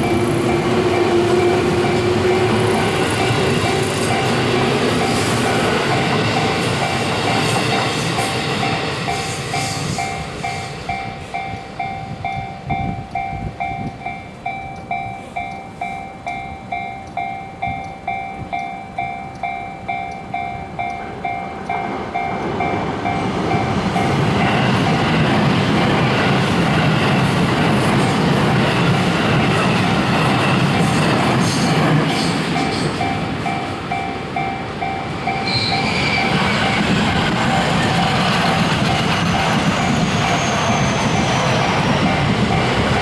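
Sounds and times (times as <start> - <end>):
passing train running noise: 0.0 - 43.0
railroad crossing warning bell: 0.0 - 43.0
train rumble: 0.0 - 43.0.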